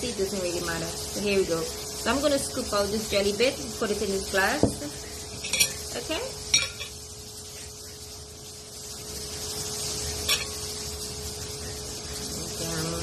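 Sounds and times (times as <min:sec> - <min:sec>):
faint steady hum: 0:00.0 - 0:13.0
low hiss: 0:00.0 - 0:13.0.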